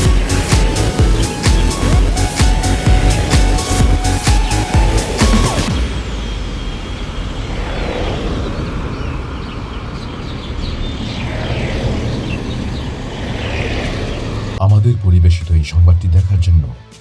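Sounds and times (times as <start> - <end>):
engines rumbling: 0.0 - 16.7.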